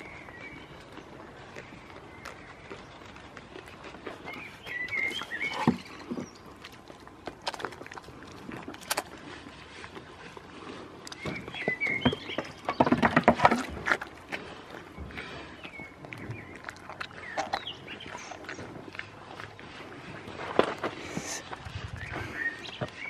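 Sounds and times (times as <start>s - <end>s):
goat crunching vegetable: 0.0s - 23.0s.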